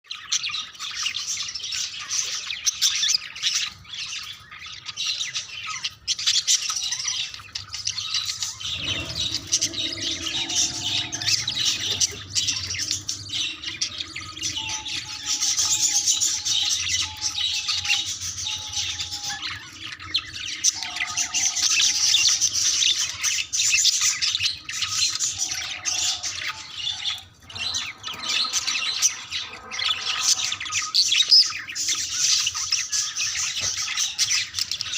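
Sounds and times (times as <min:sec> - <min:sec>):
budgerigars chattering and warbling: 0:00.1 - 0:34.9.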